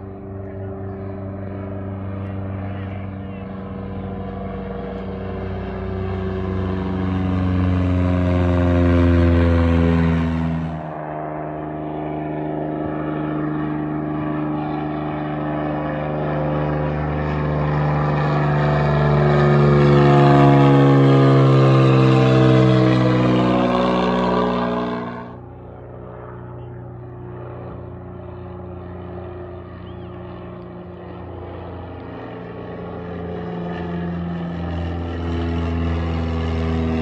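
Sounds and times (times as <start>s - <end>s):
propeller airplane flying overhead: 0.0s - 37.0s.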